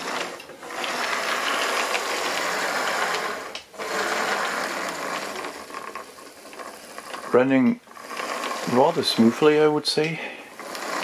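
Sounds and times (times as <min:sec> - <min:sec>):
model locomotive motor whirring: 0:00.0 - 0:11.0.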